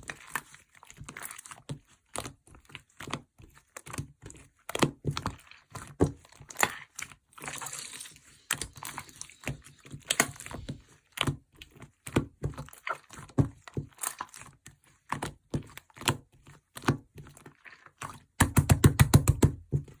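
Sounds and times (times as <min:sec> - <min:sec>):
slime squished clicking and crackling: 0:00.0 - 0:20.0.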